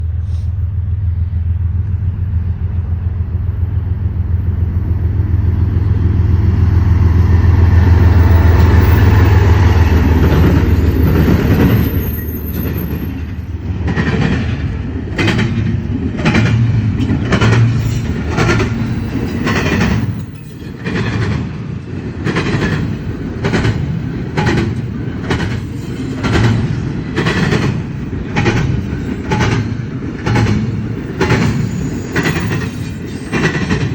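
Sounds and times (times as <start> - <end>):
diesel locomotive rumble: 0.0 - 33.9
train wheels clacking over track: 1.7 - 33.9.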